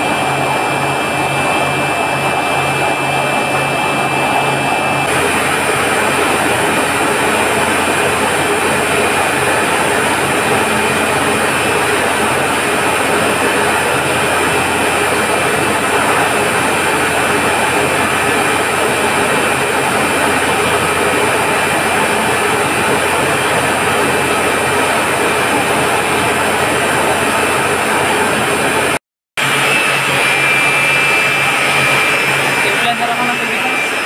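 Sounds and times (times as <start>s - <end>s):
constant high whine: 0.0s - 34.0s
pumps and motors running: 0.0s - 34.0s.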